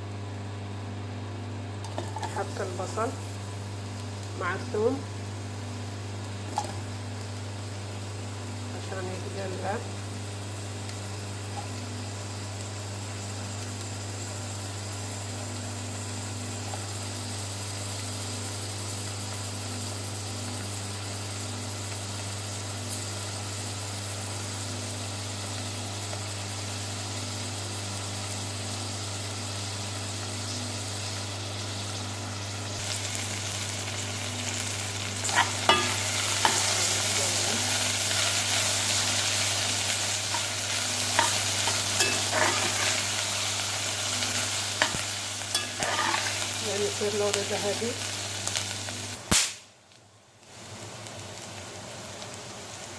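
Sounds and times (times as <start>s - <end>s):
onion and garlic sizzling in oil: 0.1s - 52.9s.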